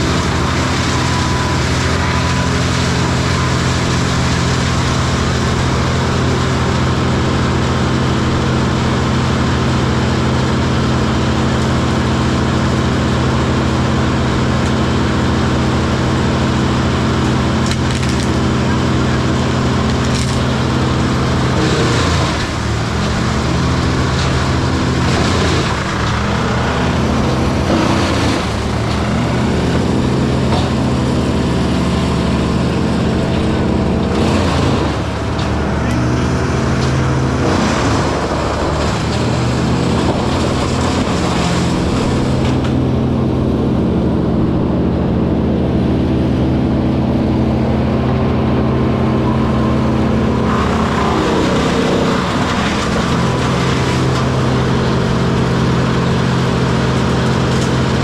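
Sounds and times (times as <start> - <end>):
wood chipper engine running: 0.0 - 58.0
wood crackling and splintering: 0.0 - 58.0.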